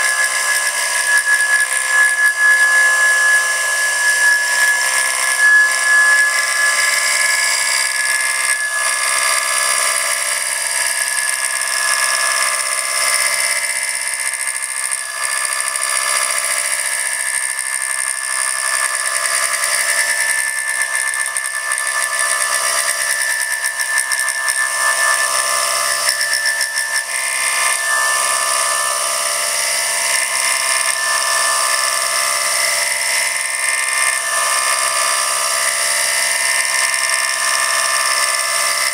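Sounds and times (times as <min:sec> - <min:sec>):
milling machine spindle whine: 0:00.0 - 0:38.9.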